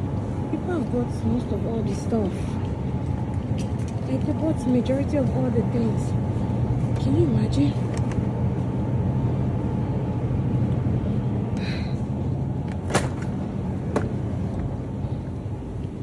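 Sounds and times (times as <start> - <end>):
low rumble in a store: 0.0 - 16.0.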